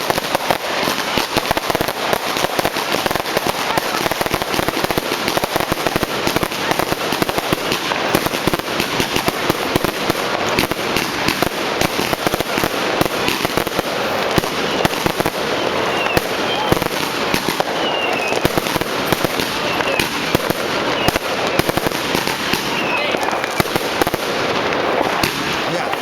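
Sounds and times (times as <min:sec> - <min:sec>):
fireworks and firecrackers banging: 0:00.0 - 0:26.0.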